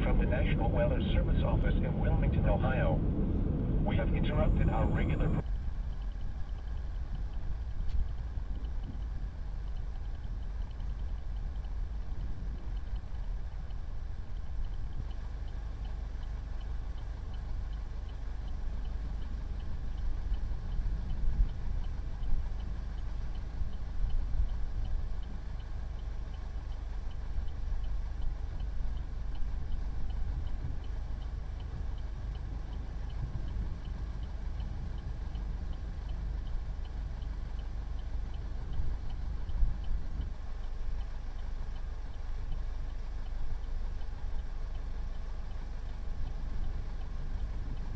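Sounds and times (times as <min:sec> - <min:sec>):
car road and engine rumble: 0:00.0 - 0:47.9
faint regular ticking: 0:00.0 - 0:47.9.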